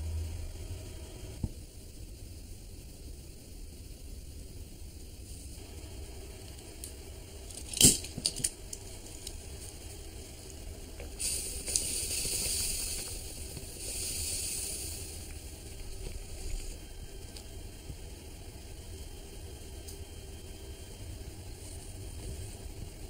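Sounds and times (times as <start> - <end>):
steady hiss of pot heating: 0.0 - 23.0.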